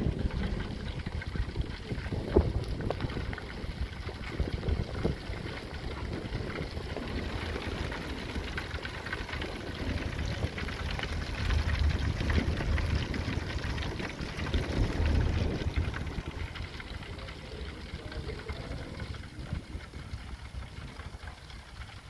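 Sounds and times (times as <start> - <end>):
fish sizzling in oil: 0.0 - 22.0
wind rumbling on microphone: 0.0 - 22.0.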